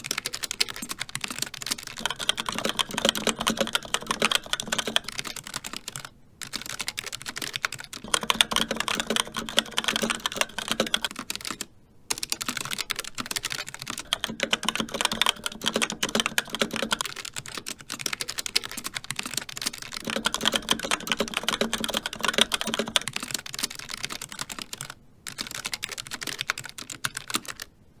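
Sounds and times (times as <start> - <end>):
fast typing on mechanical keyboard: 0.0 - 27.7.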